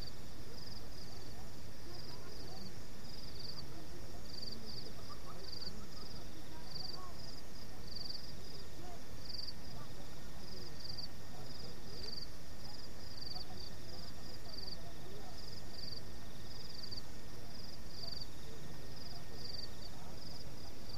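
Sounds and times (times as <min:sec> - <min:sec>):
crickets chirping: 0:00.0 - 0:20.9
steady low background noise: 0:00.0 - 0:20.9.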